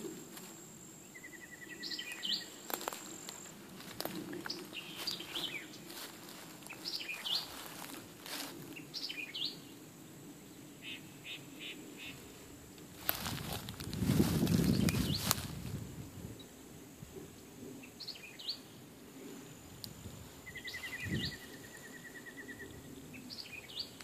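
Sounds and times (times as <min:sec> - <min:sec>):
songbirds calling: 0:01.0 - 0:24.0.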